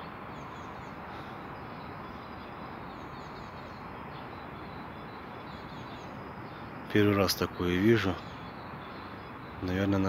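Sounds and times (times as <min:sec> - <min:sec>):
small birds chirping faintly: 0:00.0 - 0:10.0.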